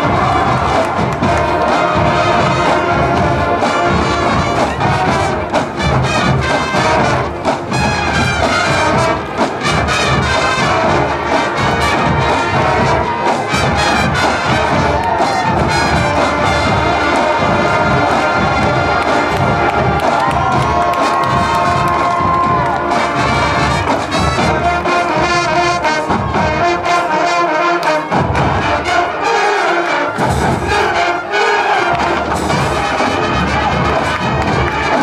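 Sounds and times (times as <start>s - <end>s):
steady percussive beat: 0.0s - 26.9s, 29.9s - 35.0s
brass: 0.0s - 35.0s
school band playing loudly: 0.0s - 35.0s.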